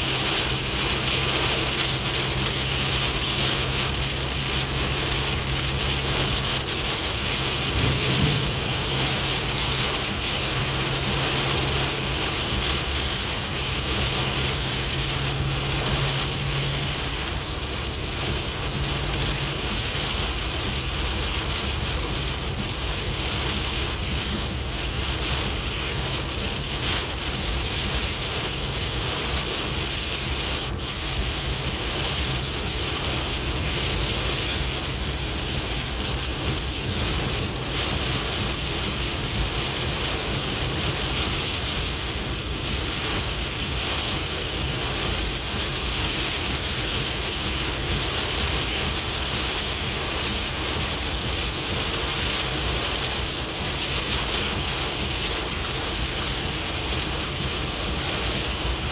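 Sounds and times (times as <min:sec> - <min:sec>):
rain splashing on surfaces: 0:00.0 - 0:58.9.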